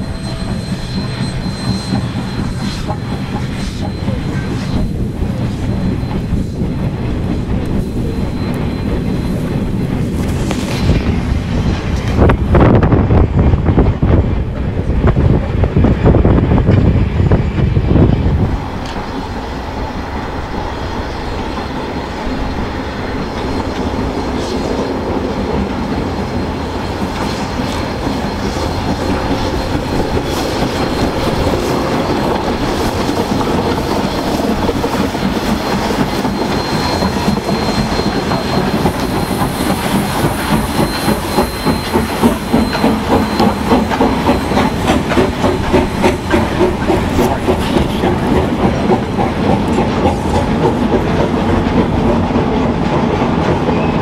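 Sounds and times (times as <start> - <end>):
steam locomotive exhaust beats: 0.0 - 54.0
train wheels clicking over rail joints: 0.0 - 54.0.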